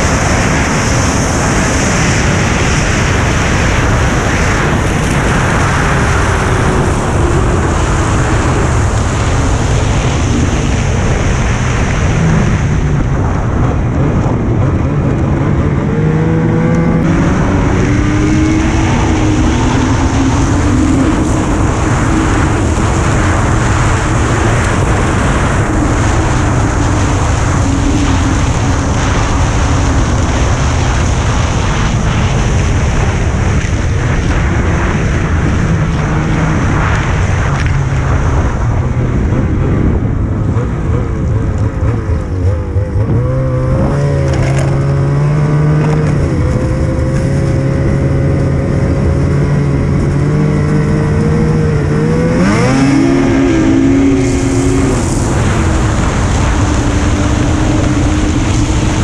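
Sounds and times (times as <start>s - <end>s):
loud rush of noise: 0.0s - 59.0s
snowmobile engine running: 0.0s - 59.0s.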